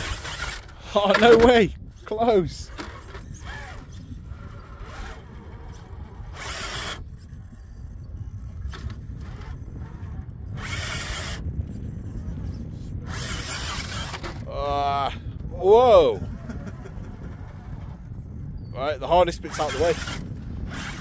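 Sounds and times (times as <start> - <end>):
low rumble: 0.0 - 19.4
rc car motor and tyres spinning: 0.0 - 21.0.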